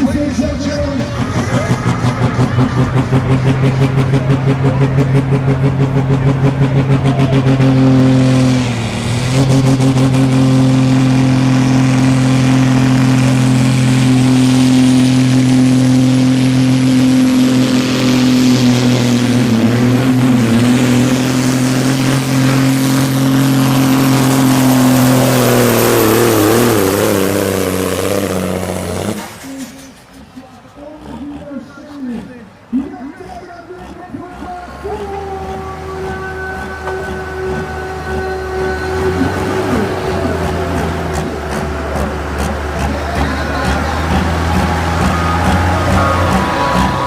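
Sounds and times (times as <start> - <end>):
tractor diesel engine revving: 0.0 - 47.0.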